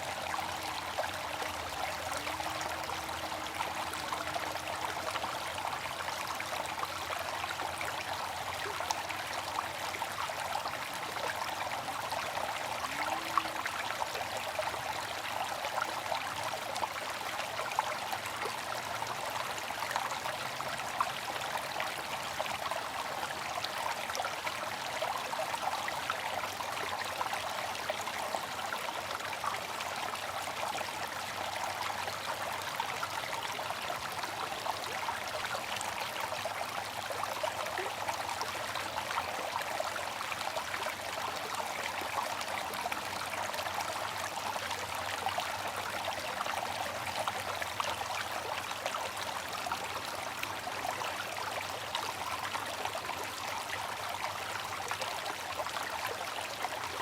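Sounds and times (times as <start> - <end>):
fountain water trickling and splashing: 0.0 - 57.0.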